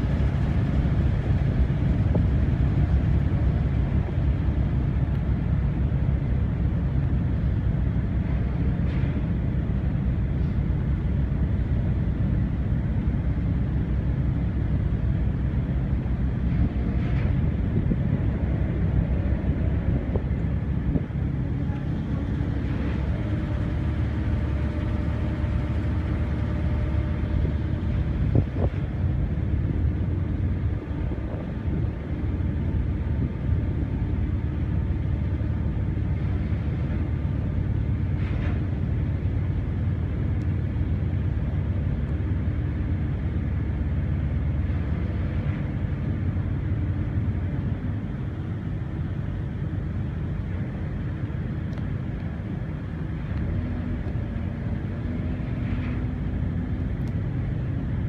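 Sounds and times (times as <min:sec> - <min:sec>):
ship engine droning: 0:00.0 - 0:58.0.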